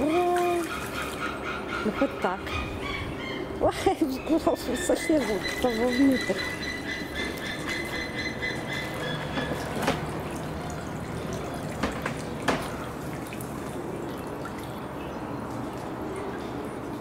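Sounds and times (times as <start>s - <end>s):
water sloshing and trickling: 0.0s - 17.0s.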